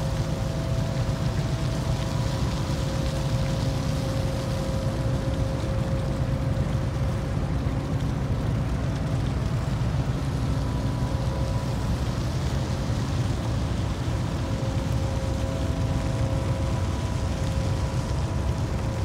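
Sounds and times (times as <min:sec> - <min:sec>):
ship machinery rumbling and humming: 0:00.0 - 0:19.0.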